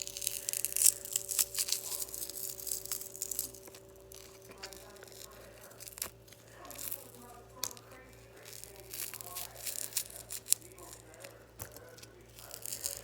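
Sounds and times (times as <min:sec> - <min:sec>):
faint steady hum: 0:00.0 - 0:13.0
glass shards crackling: 0:00.0 - 0:13.0.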